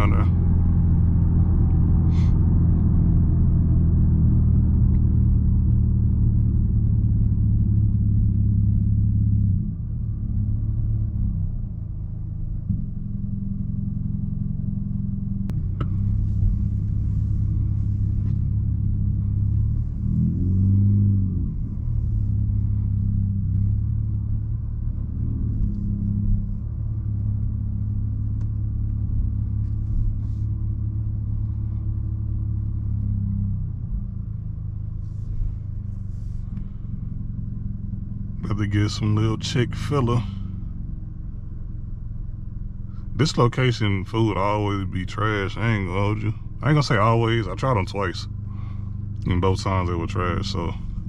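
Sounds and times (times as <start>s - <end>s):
car exhaust droning: 0.0s - 51.0s.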